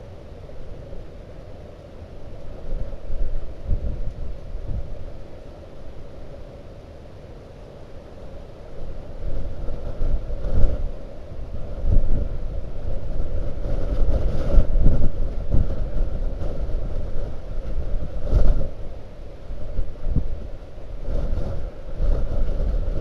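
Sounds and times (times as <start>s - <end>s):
wind gusting against microphone: 0.0s - 23.0s.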